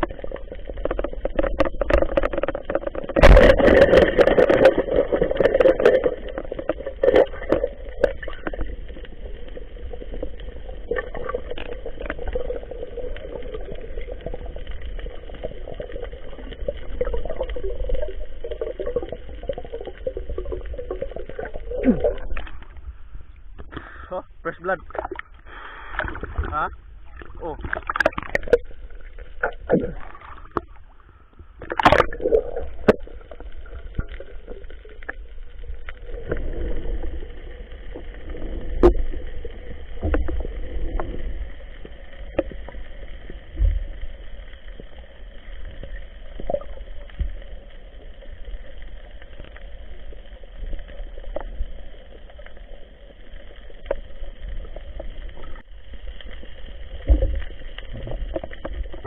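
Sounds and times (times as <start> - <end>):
muffled underwater water rush: 0.0 - 59.0.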